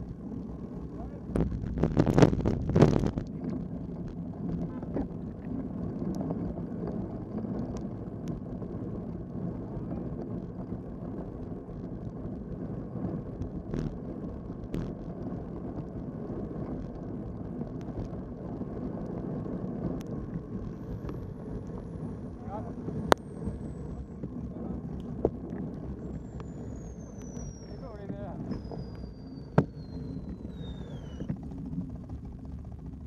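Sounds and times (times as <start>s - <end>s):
bike tyres rolling on wet asphalt: 0.0s - 33.0s
wind rushing over microphone: 0.0s - 33.0s.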